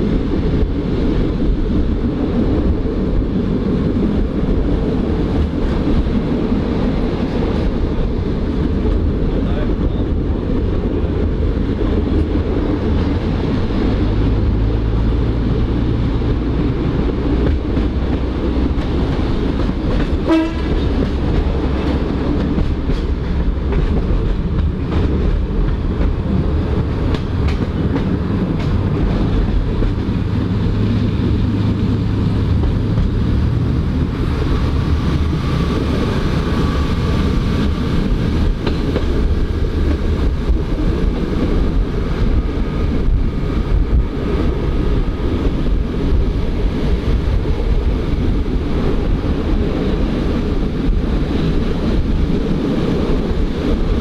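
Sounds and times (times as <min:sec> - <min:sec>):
wheel and rail noise: 0:00.0 - 0:54.0.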